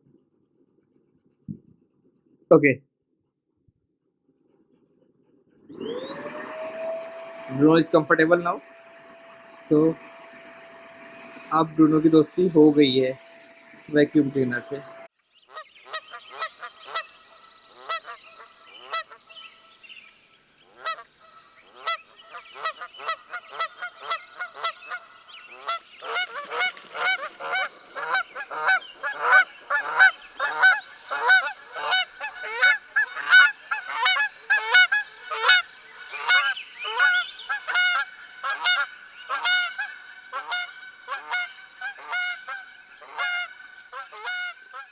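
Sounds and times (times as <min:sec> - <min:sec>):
birds calling: 0:05.7 - 0:44.9.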